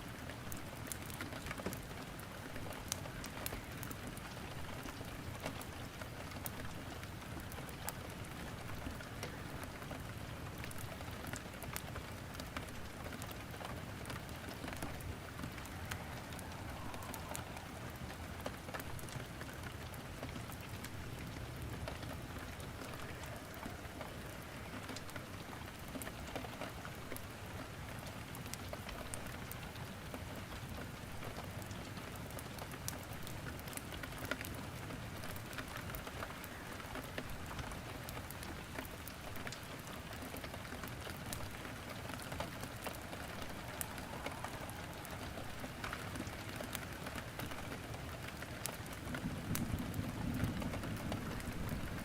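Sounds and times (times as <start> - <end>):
rain falling: 0.0 - 52.0
wood fire crackling and popping: 0.1 - 52.0.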